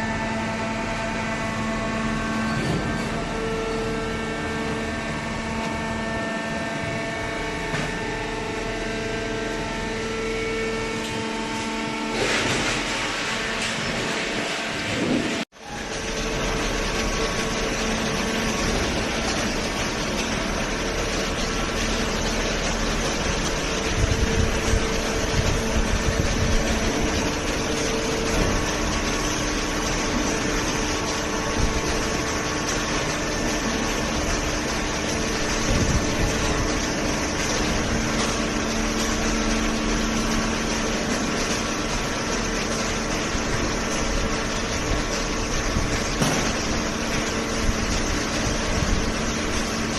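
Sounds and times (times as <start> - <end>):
baling press mechanical hum: 0.0 - 49.9.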